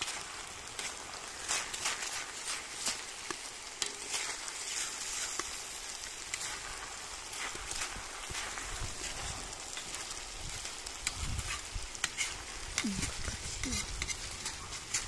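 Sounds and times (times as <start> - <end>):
rice sizzling in a pot: 0.0 - 15.0.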